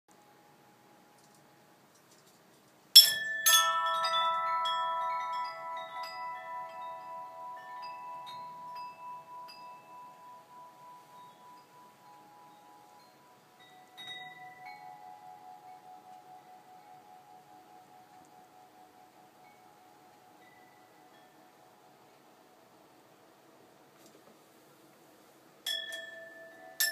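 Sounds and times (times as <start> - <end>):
chimes ringing: 3.0 - 23.3, 25.6 - 26.9.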